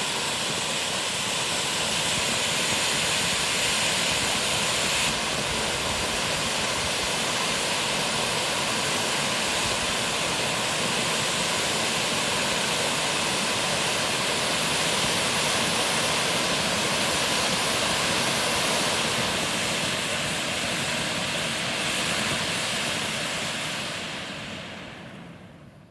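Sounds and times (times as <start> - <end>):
firework fountains hissing: 0.0 - 25.7.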